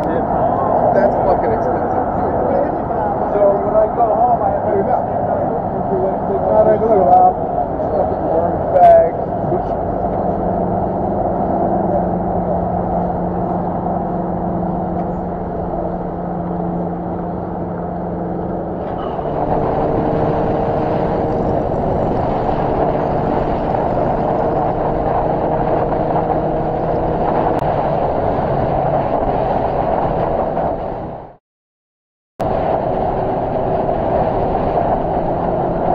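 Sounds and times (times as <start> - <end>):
wind noise over camera: 0.0 - 31.4, 32.4 - 35.9.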